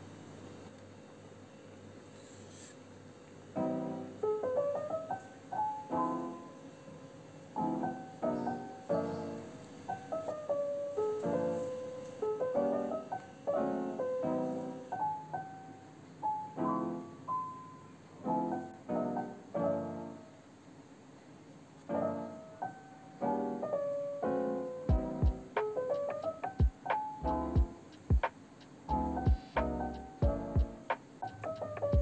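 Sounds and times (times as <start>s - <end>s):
piano music: 3.5s - 20.5s, 21.8s - 32.0s.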